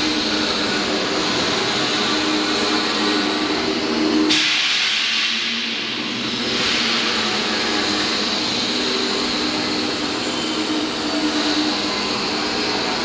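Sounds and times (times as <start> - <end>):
concrete mixer machinery humming: 0.0 - 5.0, 5.6 - 13.0
loud hiss: 0.0 - 13.0.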